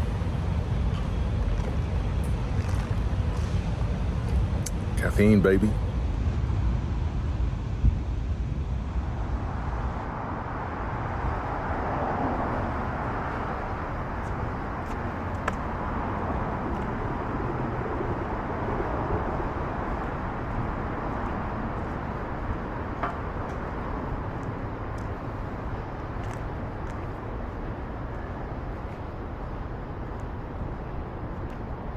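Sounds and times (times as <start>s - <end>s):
distant traffic hum: 0.0s - 31.9s.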